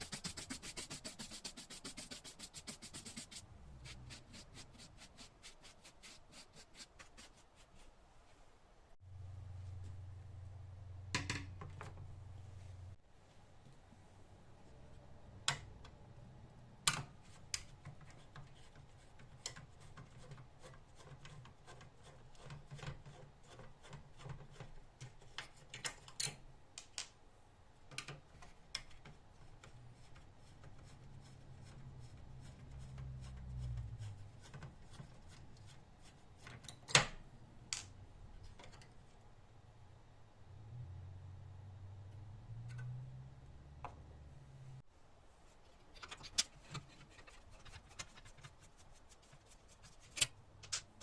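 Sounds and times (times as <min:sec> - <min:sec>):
faint low hum: 0:00.0 - 0:23.8, 0:24.6 - 0:51.0.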